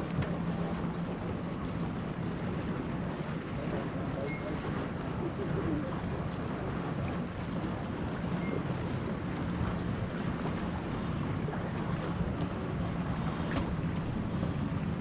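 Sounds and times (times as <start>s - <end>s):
jet ski engine running: 0.0s - 15.0s
water rushing: 0.0s - 15.0s
wind buffeting microphone: 0.0s - 15.0s.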